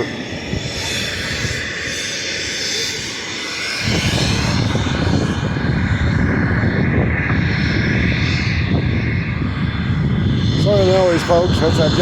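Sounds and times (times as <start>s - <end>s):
jet engine running: 0.0s - 12.0s
wind buffeting microphone: 0.0s - 12.0s.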